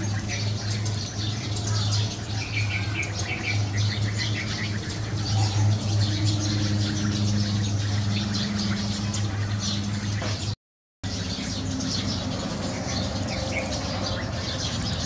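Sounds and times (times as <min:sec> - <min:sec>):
flock of sparrows chirping: 0:00.0 - 0:15.0.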